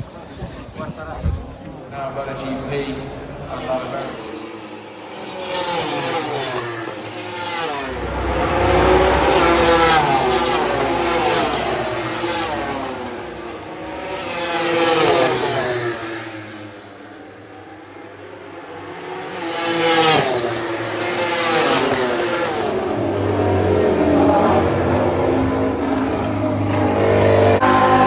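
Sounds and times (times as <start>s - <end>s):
racing motorcycles passing at speed: 0.0s - 28.0s.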